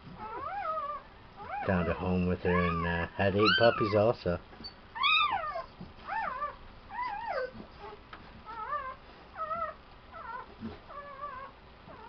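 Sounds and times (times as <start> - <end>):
newborn puppies squealing: 0.2 - 12.0.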